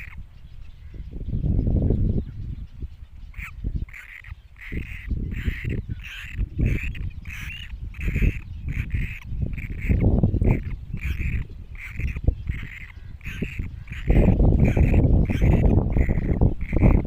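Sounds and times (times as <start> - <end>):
bird chicks calling: 0.0 - 17.0.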